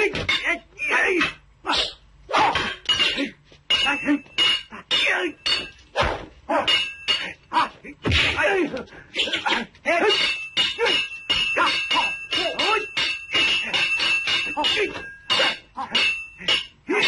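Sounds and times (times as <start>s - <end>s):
fighters shouting and grunting: 0.0s - 17.0s
wooden staffs clacking: 2.4s - 17.0s.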